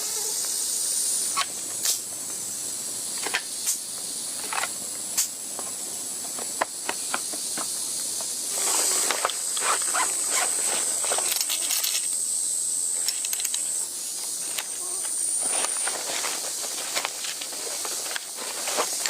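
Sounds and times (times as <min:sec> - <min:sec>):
insect drone: 0:00.0 - 0:19.0
steady high hiss: 0:00.0 - 0:19.0.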